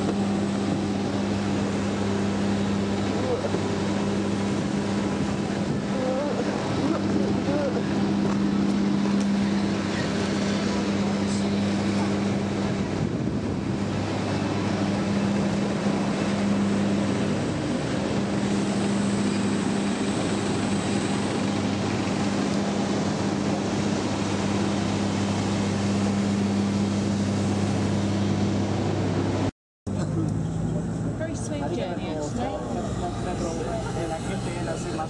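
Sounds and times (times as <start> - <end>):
constant low hum: 0.0 - 35.0
jet aircraft rushing noise: 0.0 - 35.0.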